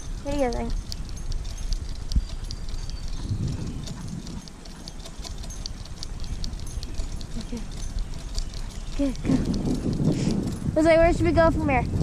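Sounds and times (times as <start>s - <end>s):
dog claws clicking on asphalt: 0.0s - 11.2s.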